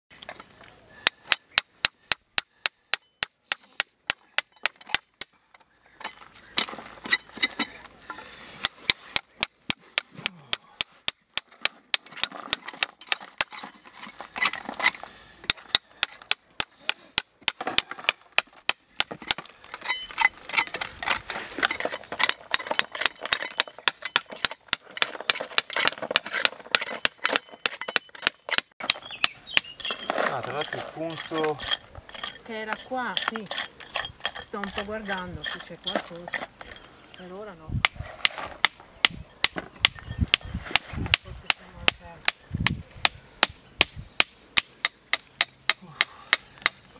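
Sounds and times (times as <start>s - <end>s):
hammer striking steel chisel: 1.0s - 5.3s, 8.6s - 36.8s, 37.8s - 46.9s.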